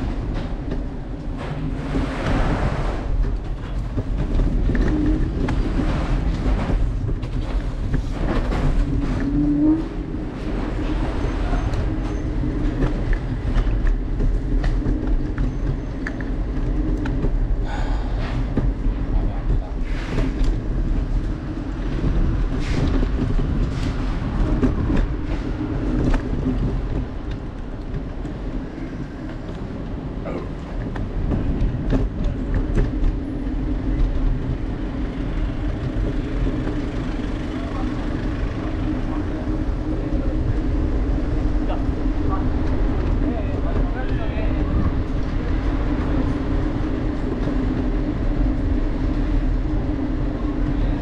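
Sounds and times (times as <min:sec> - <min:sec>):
vehicle rumbling along streets: 0:00.0 - 0:51.0.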